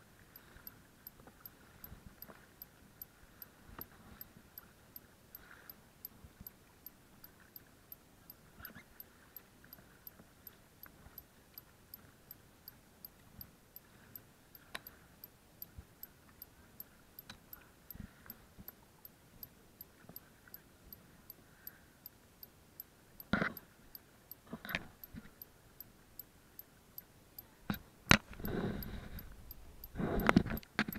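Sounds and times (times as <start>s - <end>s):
faint even ticking: 0.0s - 30.9s.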